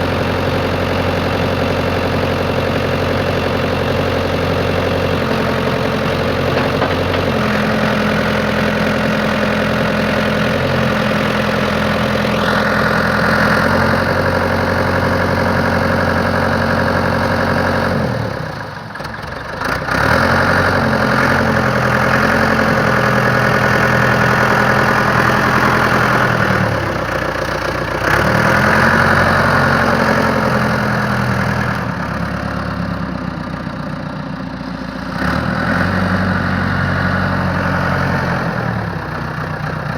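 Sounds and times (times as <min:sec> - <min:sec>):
backhoe engine running: 0:00.0 - 0:39.9.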